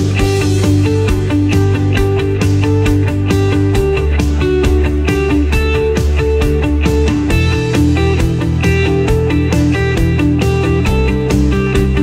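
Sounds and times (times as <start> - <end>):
guitar instrumental music: 0.0 - 12.0.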